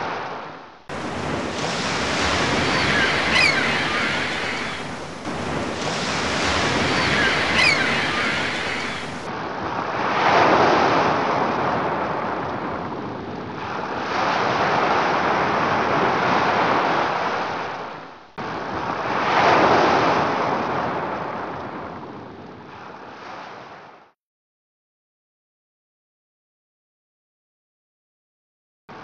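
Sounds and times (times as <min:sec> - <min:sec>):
surf breaking on beach: 0:00.0 - 0:24.1.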